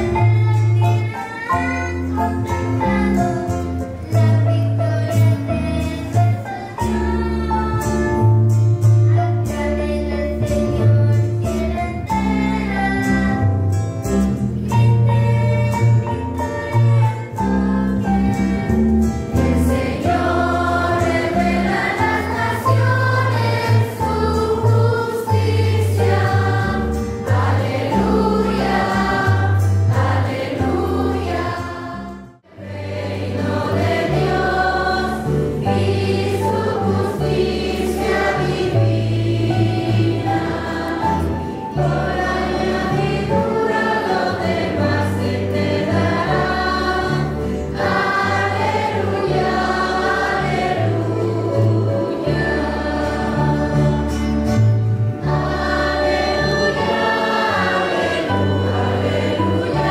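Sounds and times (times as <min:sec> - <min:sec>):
choir singing a hymn: 0:00.0 - 0:08.5, 0:09.4 - 0:59.9
low instrumental accompaniment: 0:00.0 - 0:59.9.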